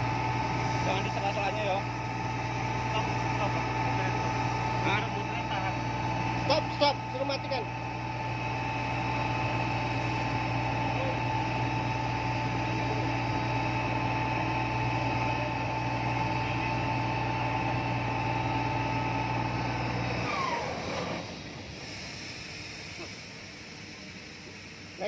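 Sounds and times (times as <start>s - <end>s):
drill rig humming: 0.0s - 25.0s
drill rig whine: 0.0s - 25.0s.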